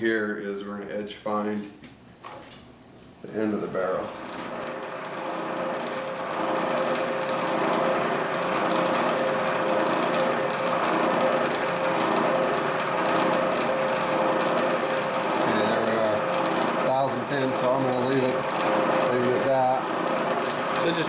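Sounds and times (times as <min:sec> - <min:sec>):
milling machine spindle running: 0:03.8 - 0:21.0.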